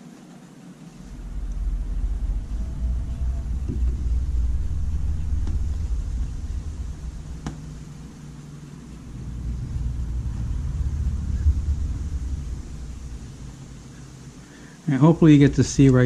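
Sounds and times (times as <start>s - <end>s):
low rumble: 1.0s - 16.0s.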